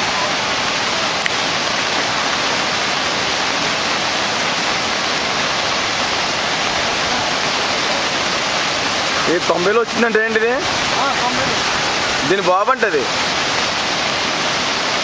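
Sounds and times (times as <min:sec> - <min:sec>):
rushing floodwater roar: 0:00.0 - 0:15.0.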